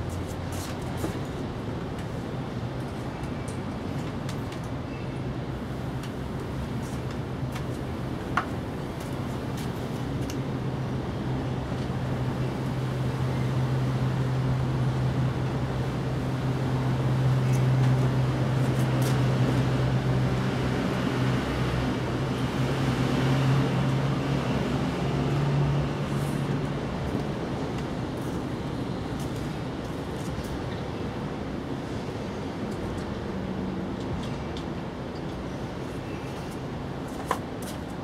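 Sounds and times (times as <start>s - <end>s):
outdoor background noise: 0.0s - 38.0s.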